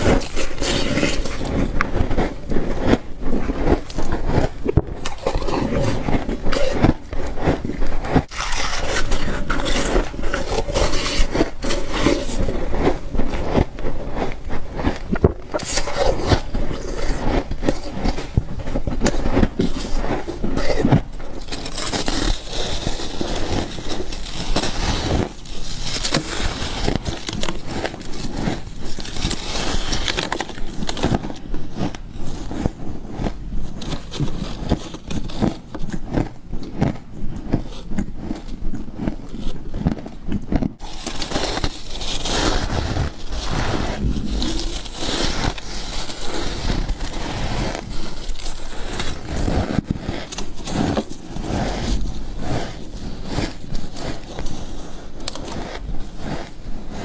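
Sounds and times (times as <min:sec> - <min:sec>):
chewing crunchy frost: 0:00.0 - 0:57.0.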